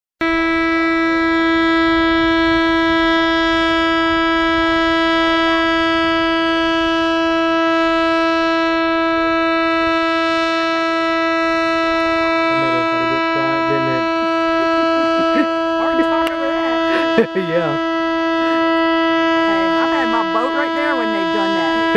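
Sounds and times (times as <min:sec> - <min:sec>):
dam warning horn long steady note: 0:00.2 - 0:21.9.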